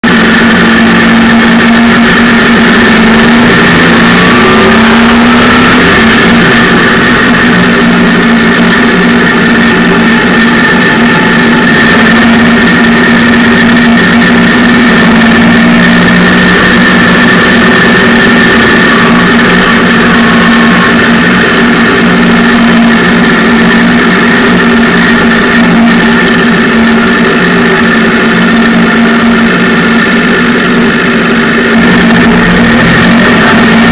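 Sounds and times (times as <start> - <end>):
car engine running loud: 0.0 - 33.9.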